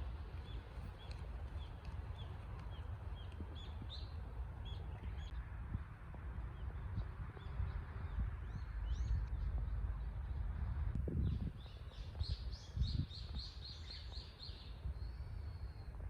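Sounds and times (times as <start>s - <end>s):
steady low rumble: 0.0s - 13.9s
songbird singing: 0.0s - 16.0s.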